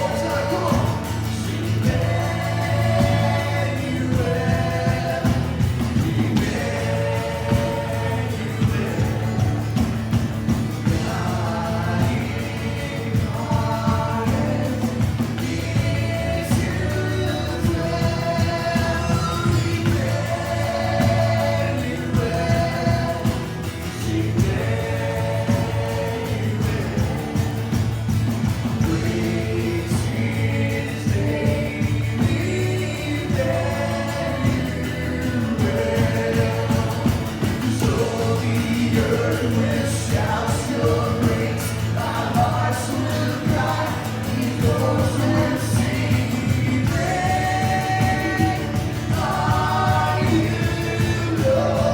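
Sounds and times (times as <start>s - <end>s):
band accompaniment: 0.0s - 51.9s
people singing worship song: 0.0s - 51.9s.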